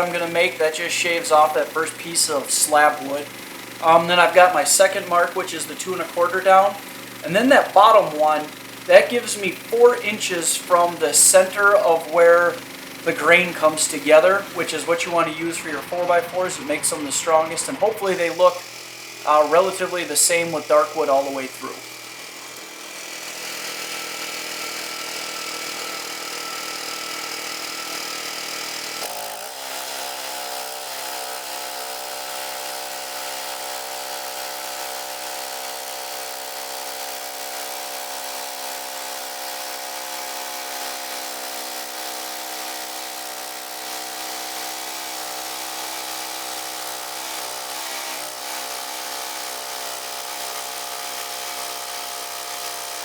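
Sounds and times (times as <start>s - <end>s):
bandsaw cutting through log: 0.0s - 53.0s.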